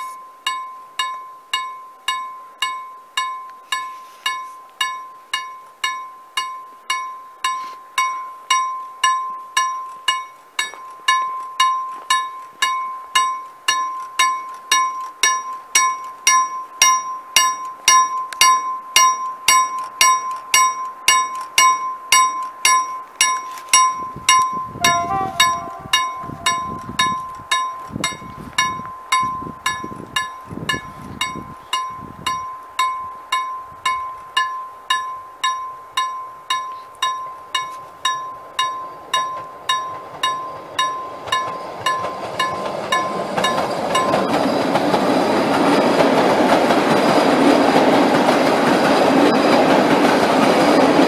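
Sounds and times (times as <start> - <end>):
level crossing warning bell: 0.0 - 51.0.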